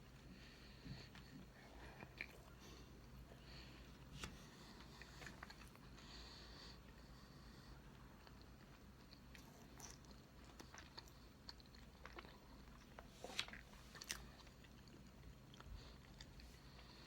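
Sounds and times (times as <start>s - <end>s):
chewing soft cake: 0.0s - 17.0s.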